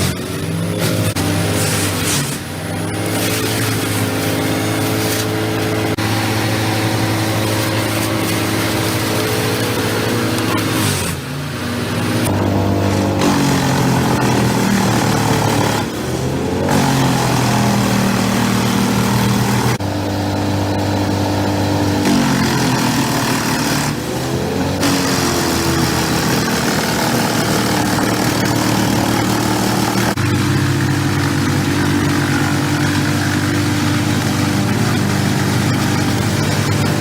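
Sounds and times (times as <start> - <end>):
wood chipper running: 0.0 - 37.0.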